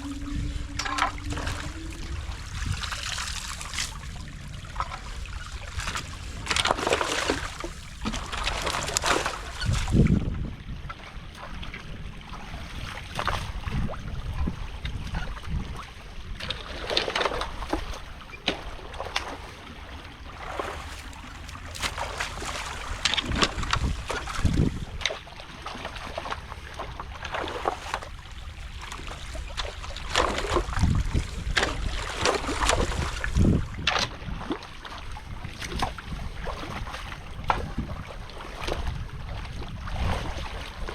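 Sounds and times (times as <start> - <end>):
water splashing in a creek: 0.0 - 10.3, 12.4 - 40.9
wind rumble on microphone: 0.0 - 40.9.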